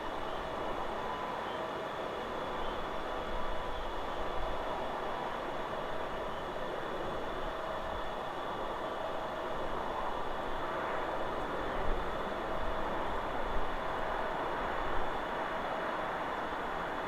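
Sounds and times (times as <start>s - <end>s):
wind rushing through trees: 0.0s - 17.0s.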